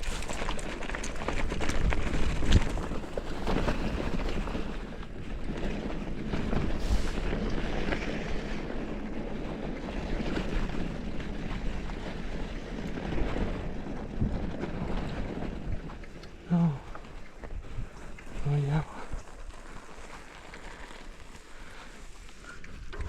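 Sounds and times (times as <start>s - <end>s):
mountain bike rolling on trail: 0.0s - 23.0s
wind buffeting microphone: 0.0s - 23.0s.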